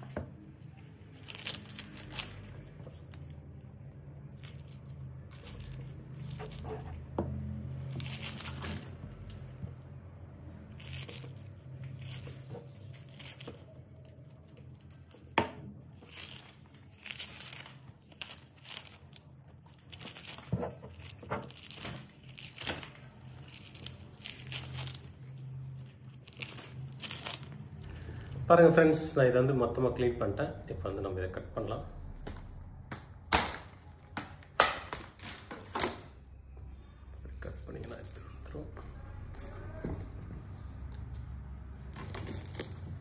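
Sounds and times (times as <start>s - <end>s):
coconut husk fibre ripping: 0.0s - 36.4s, 37.2s - 43.0s.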